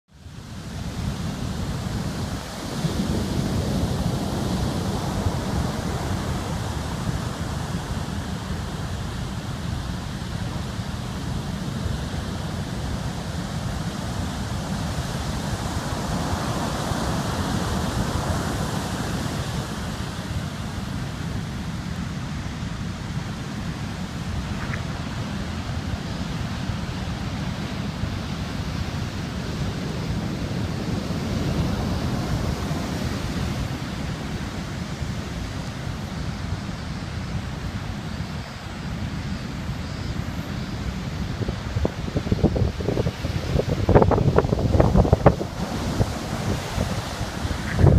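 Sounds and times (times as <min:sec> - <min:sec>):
surf and wind on beach: 0:00.1 - 0:47.9
wind buffeting microphone: 0:00.3 - 0:47.9.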